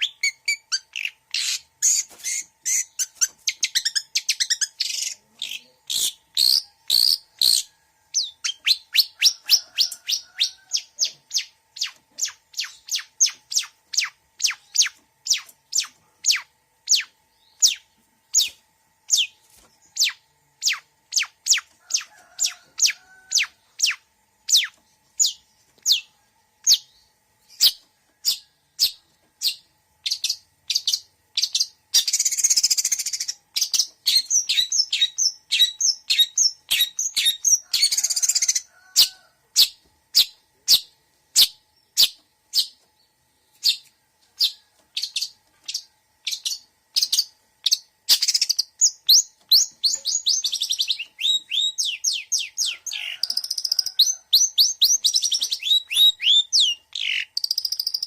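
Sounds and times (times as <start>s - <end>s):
harsh rasping bird calls: 0.0s - 42.8s, 43.6s - 58.0s.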